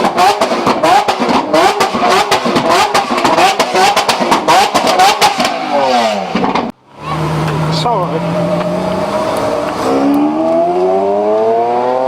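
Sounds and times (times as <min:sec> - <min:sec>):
engine revving with sharp cracks: 0:00.0 - 0:12.0.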